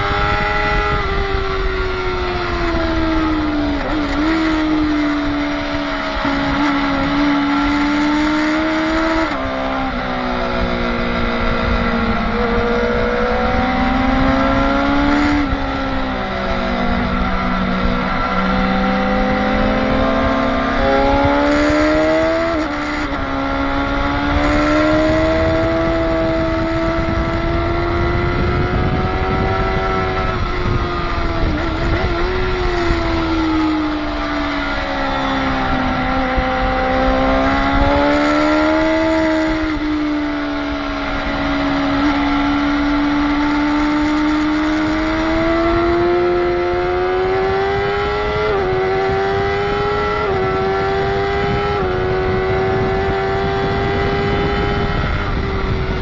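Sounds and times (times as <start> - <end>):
motorcycle engine at high revs: 0.0 - 56.0
wind noise: 0.0 - 56.0.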